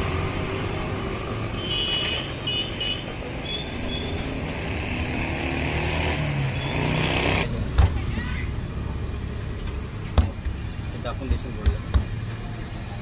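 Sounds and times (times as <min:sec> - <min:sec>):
passing traffic rumble: 0:00.0 - 0:13.0.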